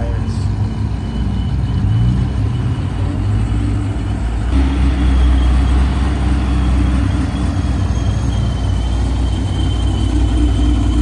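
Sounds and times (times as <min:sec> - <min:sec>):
car engine and exhaust rumbling: 0:00.0 - 0:11.0.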